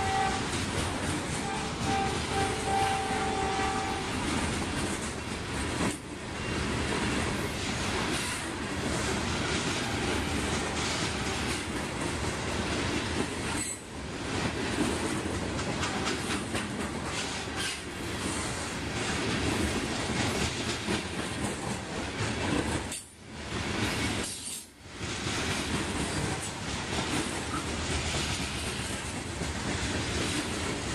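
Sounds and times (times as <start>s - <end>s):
freight train rolling past: 0.0s - 30.9s.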